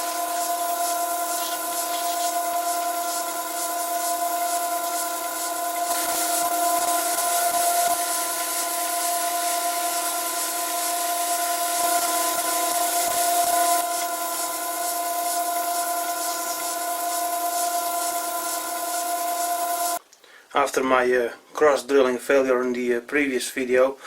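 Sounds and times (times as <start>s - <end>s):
hiss of metal cutting: 0.0s - 20.0s
lathe whine: 0.0s - 20.0s.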